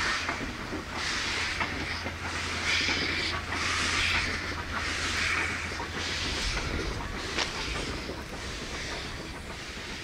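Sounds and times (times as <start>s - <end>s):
steam locomotive exhaust chuffing: 0.0s - 10.0s.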